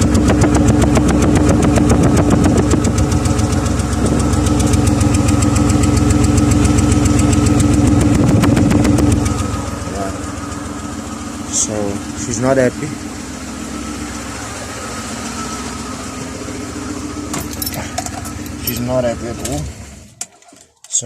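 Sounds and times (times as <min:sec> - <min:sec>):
car engine idling with misfire: 0:00.0 - 0:21.0.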